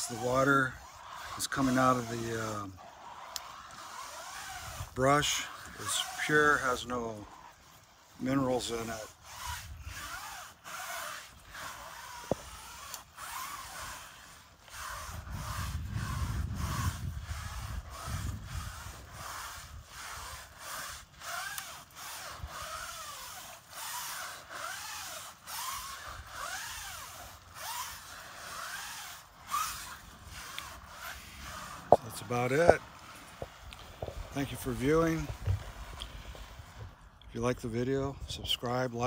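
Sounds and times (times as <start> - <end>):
brush scrubbing a window: 0.0 - 39.0.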